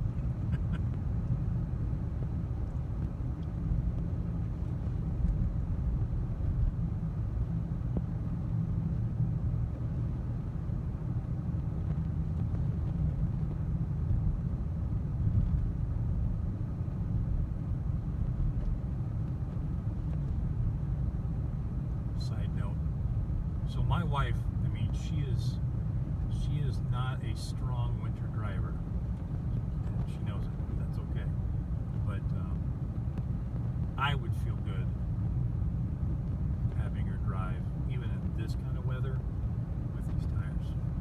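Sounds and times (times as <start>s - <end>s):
car tyres rolling on road: 0.0s - 41.0s.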